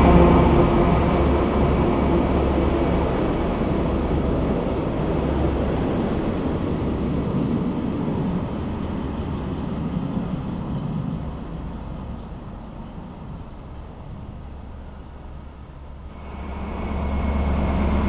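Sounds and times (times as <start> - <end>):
low train engine tones: 0.0 - 18.0
train rumbling past: 0.0 - 18.0.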